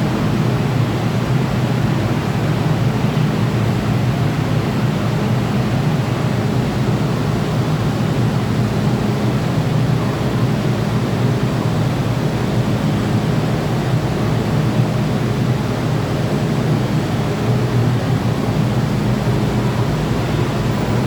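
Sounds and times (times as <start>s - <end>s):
train carriage hum and rushing hiss: 0.0s - 21.0s.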